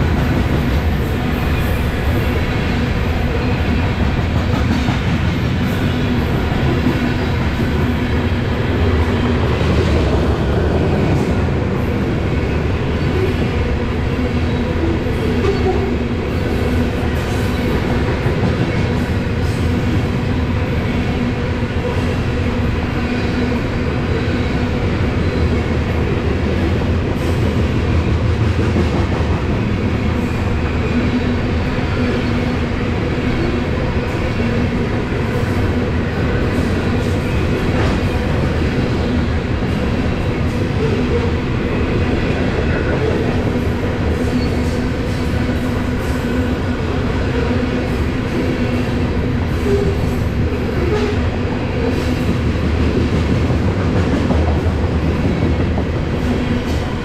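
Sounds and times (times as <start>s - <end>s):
steel wheels rumbling on rails: 0.0s - 57.0s.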